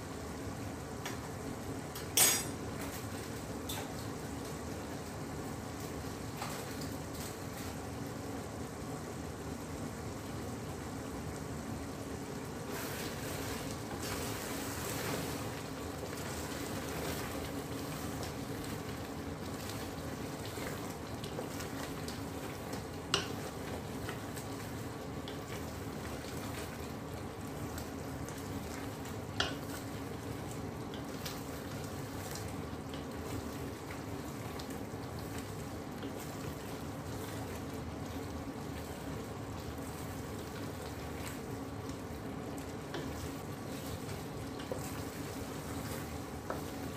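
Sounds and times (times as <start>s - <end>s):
curry simmering and bubbling: 2.6s - 46.9s.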